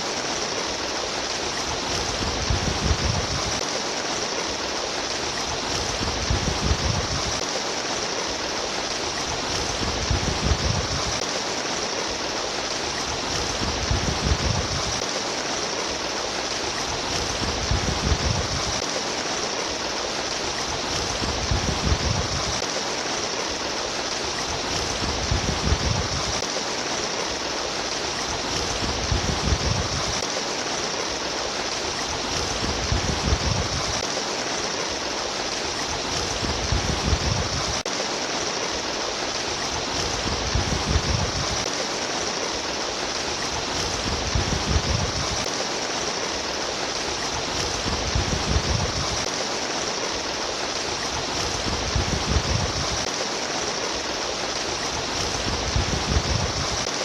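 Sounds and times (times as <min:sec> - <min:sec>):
stream water rushing and babbling: 0:00.0 - 0:57.0.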